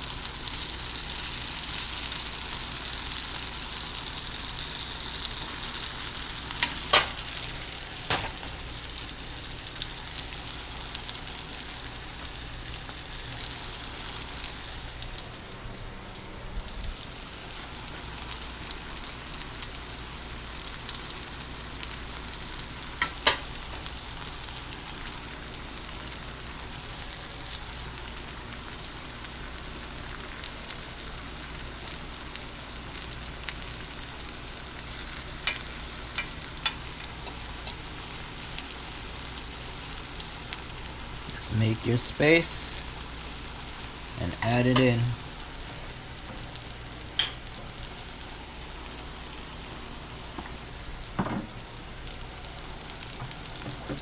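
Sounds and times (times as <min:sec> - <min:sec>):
food deep-frying in hot oil: 0:00.0 - 0:54.0.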